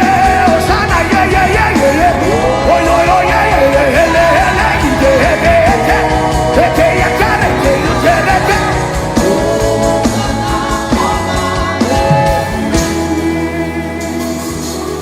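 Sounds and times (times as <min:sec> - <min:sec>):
steady beat: 0:00.0 - 0:15.0
sustained instrumental tones: 0:00.0 - 0:15.0
voices singing: 0:00.0 - 0:15.0.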